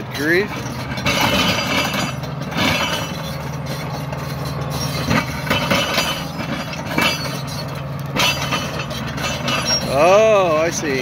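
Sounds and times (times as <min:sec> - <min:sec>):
diesel engine running under load: 0:00.0 - 0:11.0
steel tracks clanking: 0:00.0 - 0:11.0.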